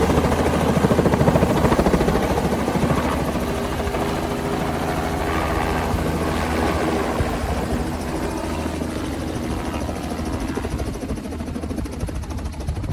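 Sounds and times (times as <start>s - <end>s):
helicopter rotor blades chopping: 0.0s - 12.9s.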